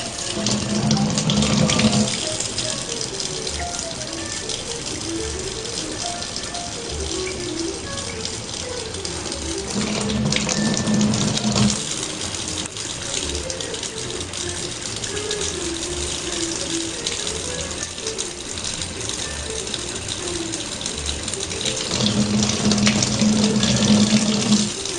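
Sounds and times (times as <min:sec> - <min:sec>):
background music: 0:00.0 - 0:24.9
tap running into a sink: 0:00.0 - 0:24.9.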